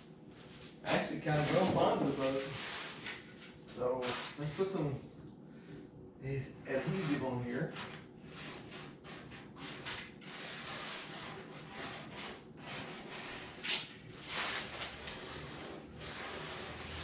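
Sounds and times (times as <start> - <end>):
rustling and scraping strokes: 0.3 - 4.8, 6.7 - 17.0.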